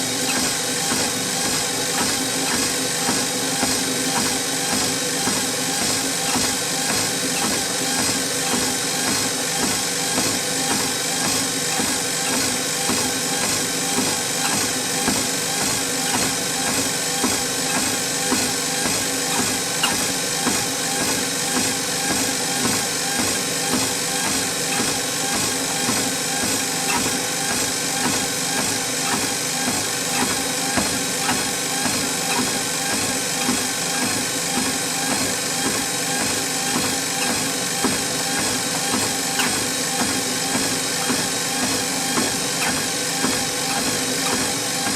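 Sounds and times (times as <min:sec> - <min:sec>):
footsteps on treadmill belt: 0:00.0 - 0:44.9
treadmill motor hum: 0:00.0 - 0:44.9.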